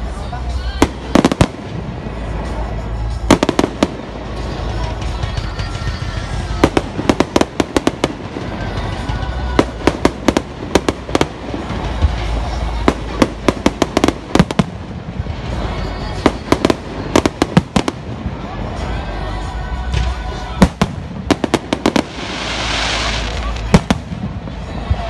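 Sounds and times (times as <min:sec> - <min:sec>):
fireworks cracking and popping: 0:00.5 - 0:25.0.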